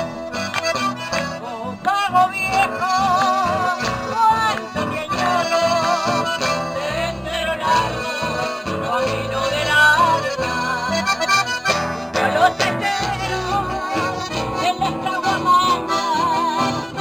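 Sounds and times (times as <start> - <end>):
accordion: 0.0 - 17.0
woman singing with vibrato: 1.4 - 17.0.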